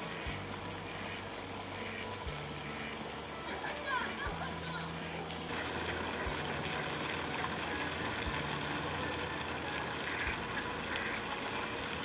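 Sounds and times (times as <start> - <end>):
distant traffic engine hum: 0.0 - 12.0.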